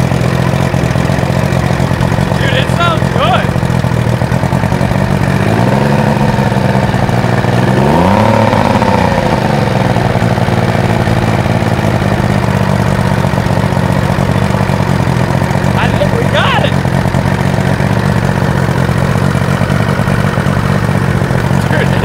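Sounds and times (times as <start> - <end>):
outboard motor idling and revving: 0.0 - 22.0.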